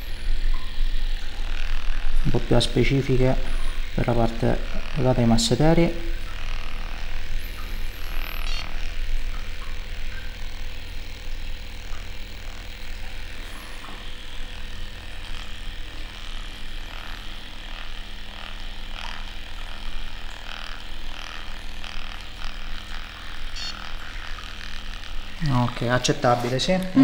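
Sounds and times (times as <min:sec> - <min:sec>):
handheld device buzzing: 0:00.0 - 0:27.0.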